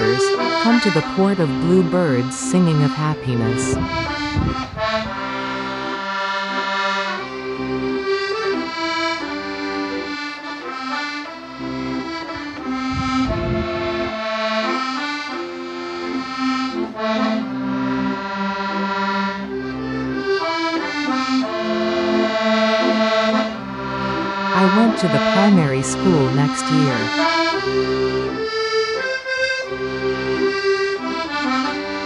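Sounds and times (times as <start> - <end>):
instrumental background music: 0.0 - 32.0.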